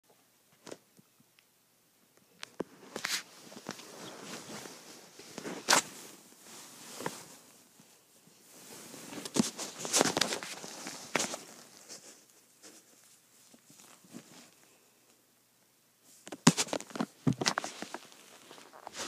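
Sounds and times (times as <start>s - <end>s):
phone rustling on blanket: 2.4s - 14.8s, 16.0s - 19.0s.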